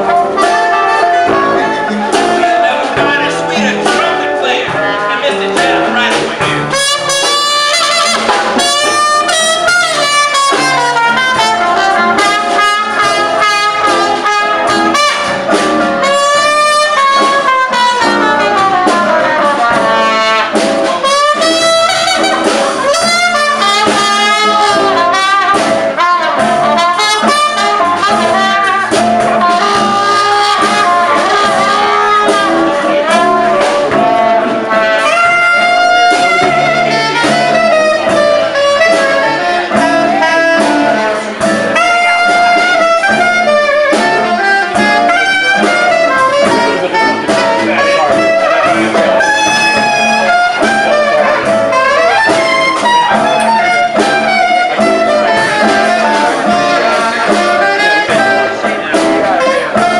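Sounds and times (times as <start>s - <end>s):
alto saxophone: 0.0s - 59.9s
bass saxophone line: 0.0s - 59.9s
drums keeping time: 0.0s - 59.9s
trumpet: 0.0s - 59.9s.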